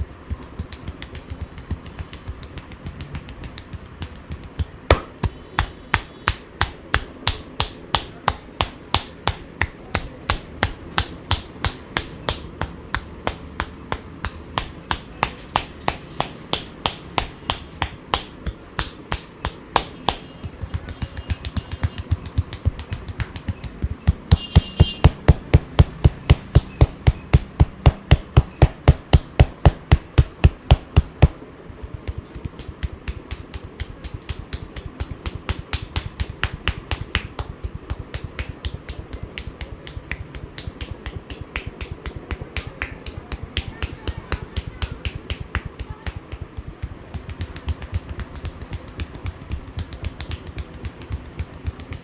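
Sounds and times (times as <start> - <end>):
hands slapping in massage: 0.0 - 52.0.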